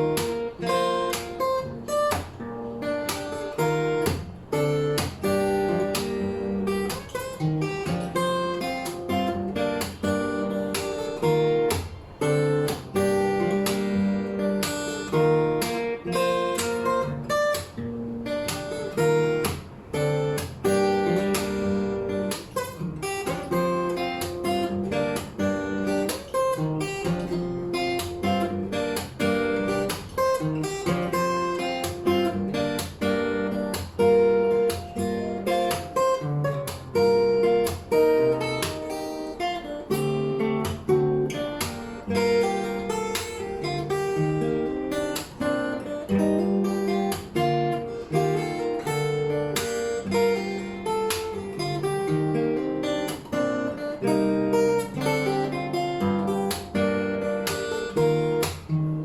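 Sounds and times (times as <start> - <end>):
fingerstyle acoustic guitar: 0.0 - 59.0.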